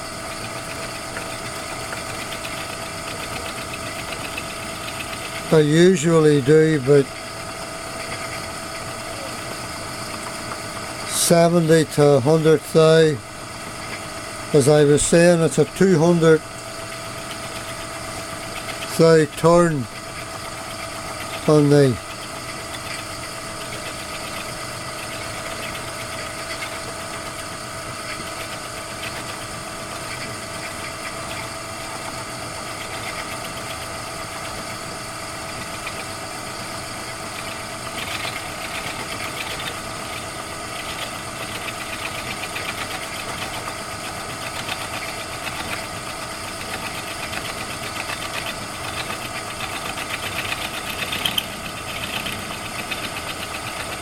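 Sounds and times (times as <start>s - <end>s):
milling machine motor hum: 0.0s - 54.0s
scratchy cutting noise: 0.4s - 9.5s, 14.6s - 34.8s, 35.4s - 54.0s.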